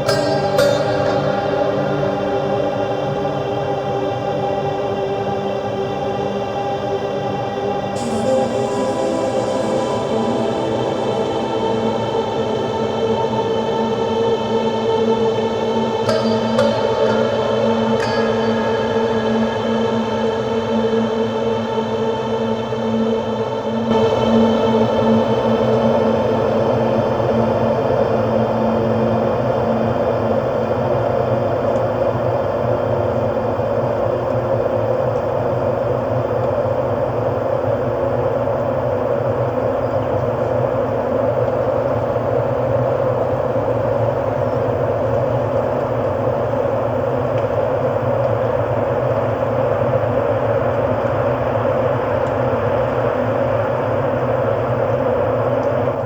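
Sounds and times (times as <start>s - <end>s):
ambient electronic drone: 0.0s - 56.0s.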